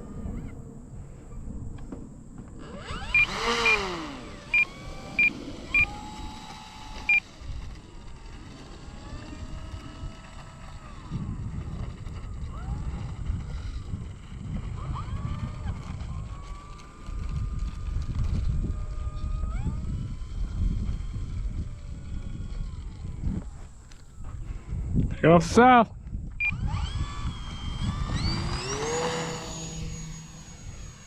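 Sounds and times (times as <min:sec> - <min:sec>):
model plane motor whining: 0:00.0 - 0:24.8, 0:26.3 - 0:31.0
wind rumble on microphone: 0:00.0 - 0:31.0.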